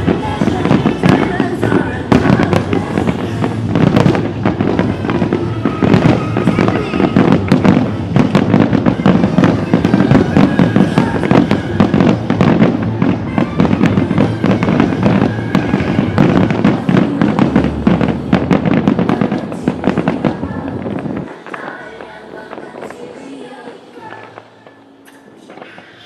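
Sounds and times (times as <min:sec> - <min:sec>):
firework bangs and crackles: 0:00.0 - 0:26.0.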